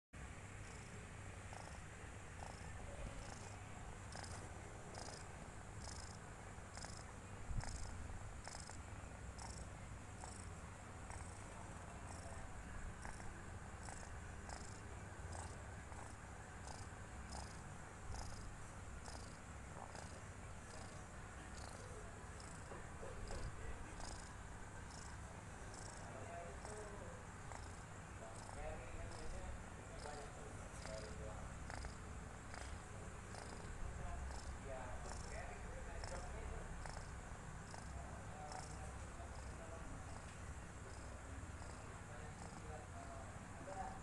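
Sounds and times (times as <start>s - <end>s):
low steady hum: 0.2s - 44.0s
kitten snoring: 0.6s - 43.2s.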